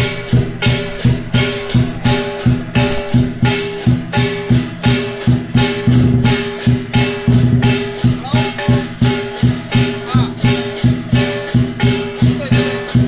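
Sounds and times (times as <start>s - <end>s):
cymbals clashing: 0.0s - 13.0s
gong: 0.0s - 13.0s
lion drum beating: 0.0s - 13.0s.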